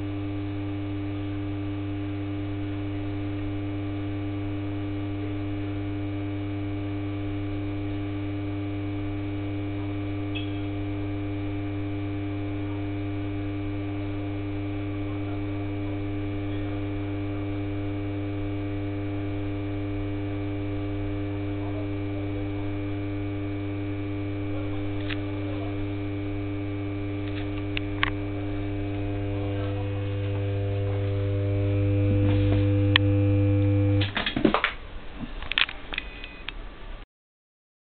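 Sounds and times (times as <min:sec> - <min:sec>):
lamp ballast electrical hum: 0:00.0 - 0:34.6.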